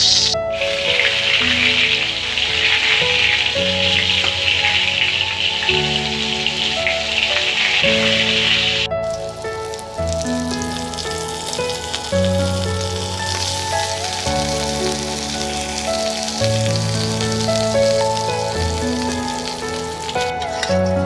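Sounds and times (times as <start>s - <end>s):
food sizzling in a pan: 0.0s - 20.4s
slow held-note music: 0.0s - 21.0s.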